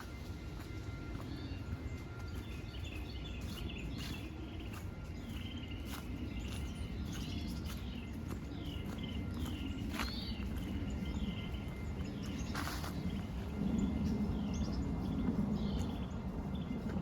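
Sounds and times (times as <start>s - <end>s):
low outdoor rumble: 0.0s - 17.0s
songbirds chirping: 0.0s - 17.0s.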